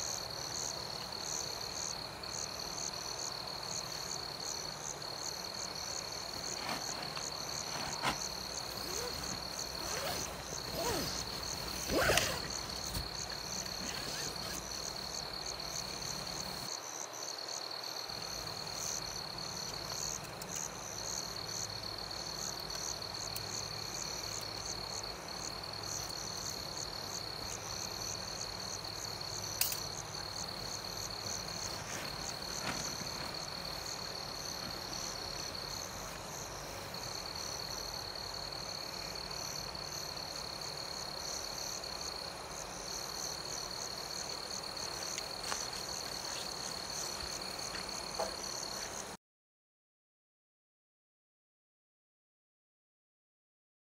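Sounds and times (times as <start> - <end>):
crickets chirping: 0.0 - 49.2.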